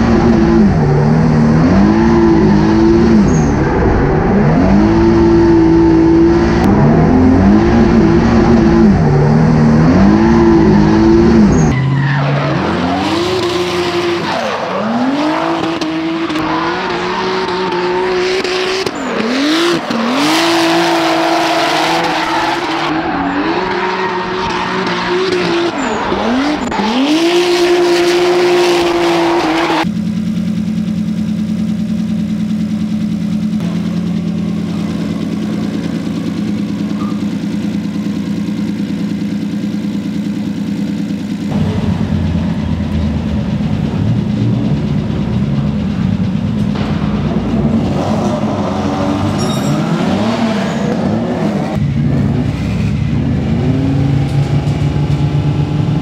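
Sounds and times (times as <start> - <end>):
car engine revving high: 0.0 - 29.9, 33.6 - 56.0.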